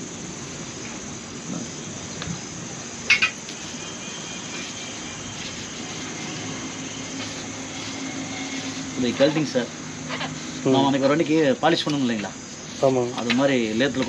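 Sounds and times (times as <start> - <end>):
workshop hiss: 0.0 - 14.0.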